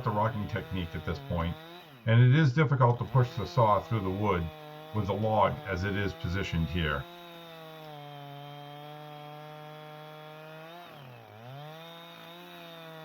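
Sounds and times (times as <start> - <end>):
chainsaw cutting through log: 0.0 - 13.0.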